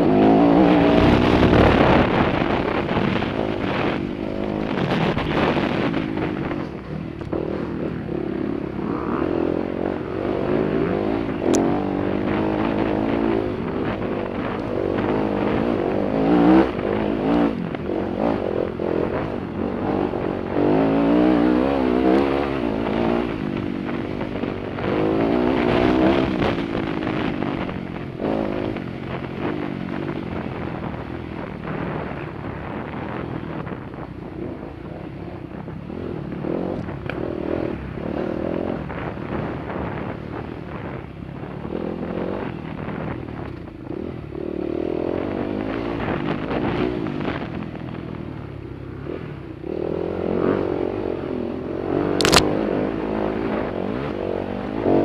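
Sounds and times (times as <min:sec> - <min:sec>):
dirt bike engine revving: 0:00.0 - 0:43.2, 0:48.9 - 0:55.0.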